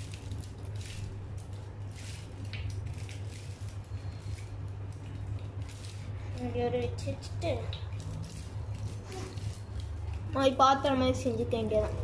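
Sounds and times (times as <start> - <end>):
aluminium foil crinkling: 0.0 - 12.0
steady low hum: 0.0 - 12.0.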